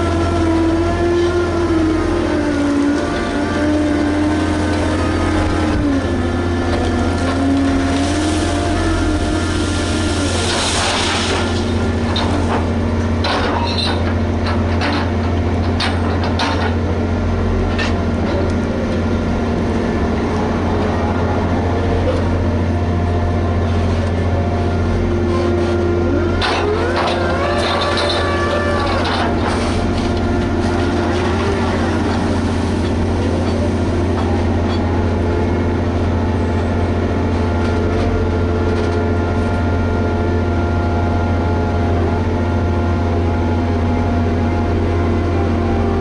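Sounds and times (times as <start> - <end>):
machine engine deep hum: 0.0 - 46.0.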